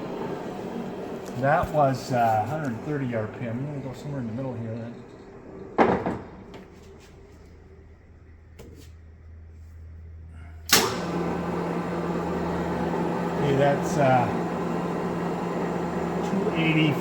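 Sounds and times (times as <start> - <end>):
drill press humming: 0.0 - 8.4, 10.2 - 17.0.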